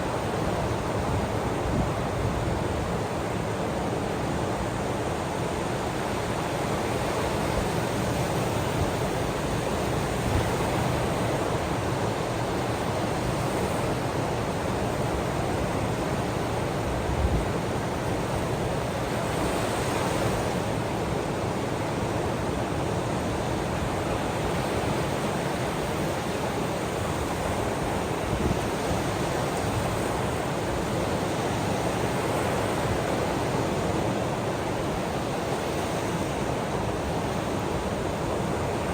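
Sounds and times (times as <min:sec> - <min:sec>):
ocean waves washing on shore: 0:00.0 - 0:38.9.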